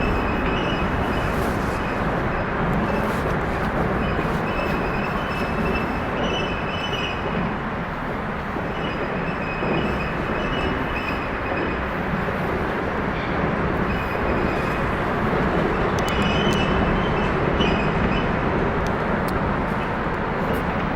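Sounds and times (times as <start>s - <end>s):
highway traffic rumble: 0.0s - 20.9s.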